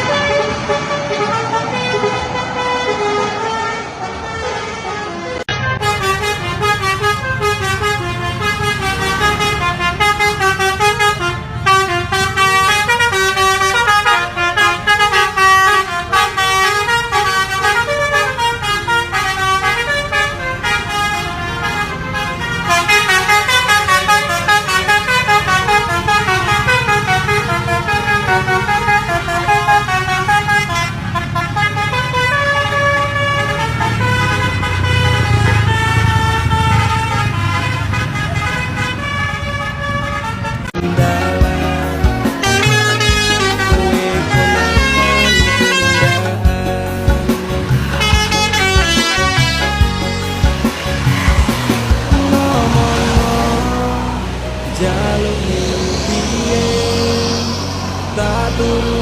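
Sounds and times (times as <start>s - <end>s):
bus engine running: 0.0s - 59.0s
multi-tone bus horn tune: 0.0s - 59.0s.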